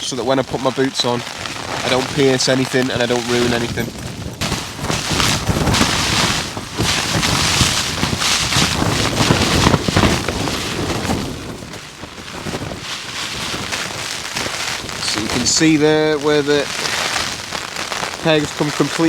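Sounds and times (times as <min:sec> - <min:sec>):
gale-force wind buffeting: 0:00.0 - 0:19.0
tent fabric flapping and rattling: 0:00.0 - 0:19.0.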